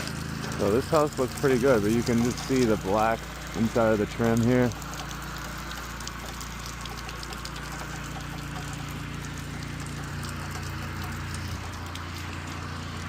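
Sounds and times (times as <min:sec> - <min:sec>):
pressure washer engine running: 0:00.0 - 0:13.0
water spraying from wand: 0:00.0 - 0:13.0.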